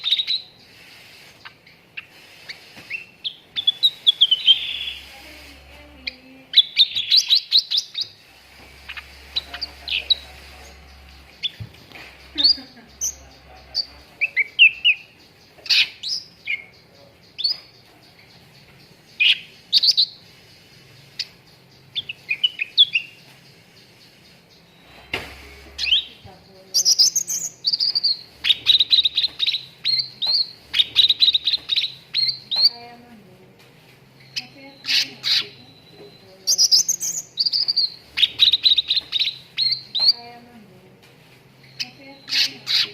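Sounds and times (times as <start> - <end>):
songbird chirping: 0.0 - 42.9.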